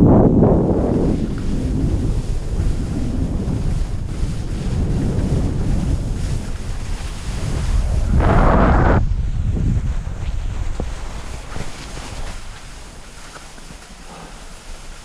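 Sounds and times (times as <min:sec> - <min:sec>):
wind buffeting microphone: 0:00.0 - 0:15.0
skis scraping over snow: 0:00.2 - 0:15.0.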